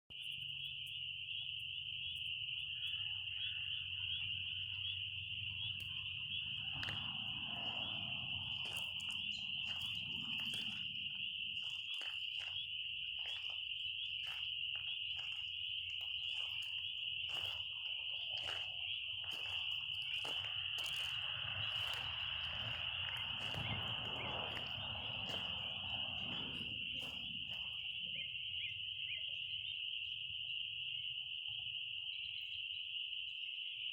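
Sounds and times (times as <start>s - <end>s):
insect chorus buzzing trill: 0.1s - 33.9s.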